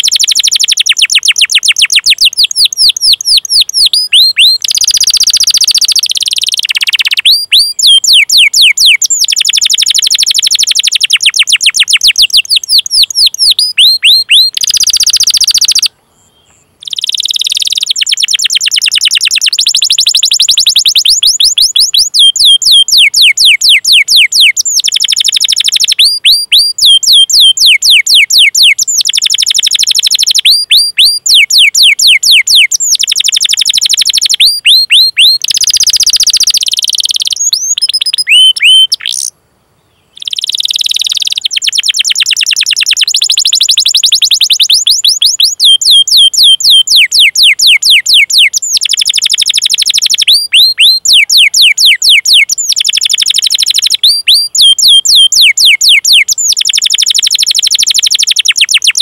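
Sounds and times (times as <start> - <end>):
canary singing: 0.0 - 39.3, 40.0 - 59.0.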